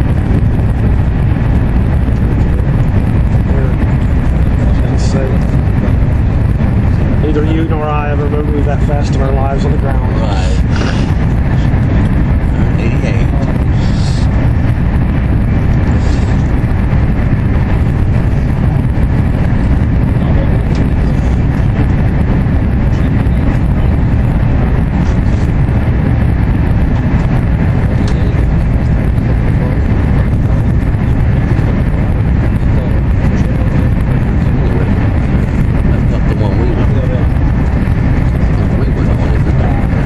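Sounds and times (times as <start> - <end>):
rushing air: 0.0 - 40.0
train wheels rumbling on rails: 0.0 - 40.0.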